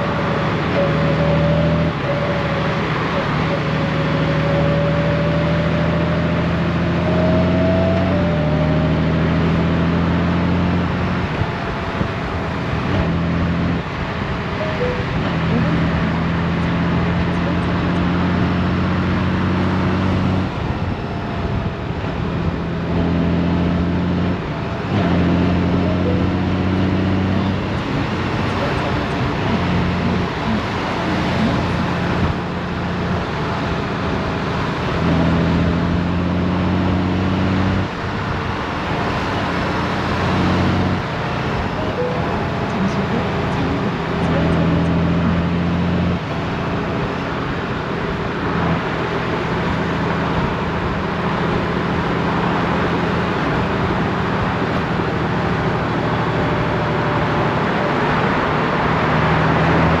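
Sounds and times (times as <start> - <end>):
motorcycle engine running: 0.0 - 58.1
road noise: 0.0 - 60.0.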